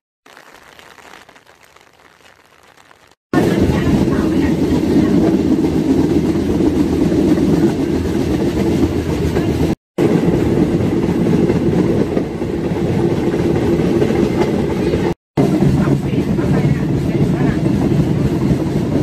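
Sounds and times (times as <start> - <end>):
train rumbling on track: 3.4 - 19.0.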